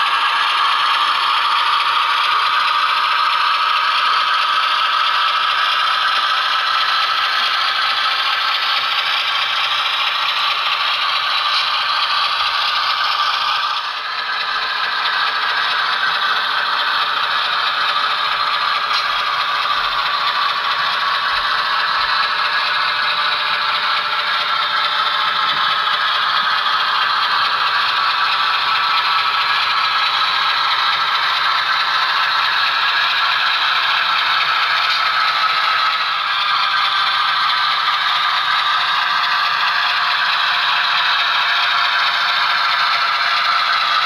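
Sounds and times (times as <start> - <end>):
metal wheels rattling on track: 0.0 - 44.0
model train motor whirring: 0.0 - 44.0.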